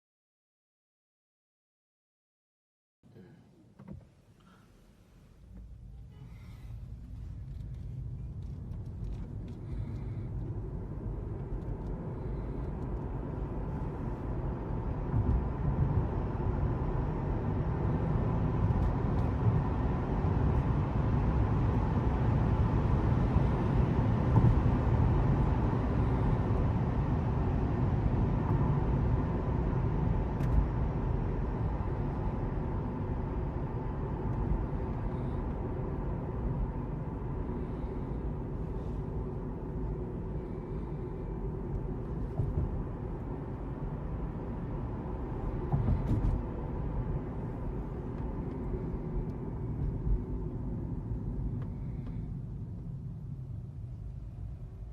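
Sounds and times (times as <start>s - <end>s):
car road and wind noise: 3.6s - 54.9s.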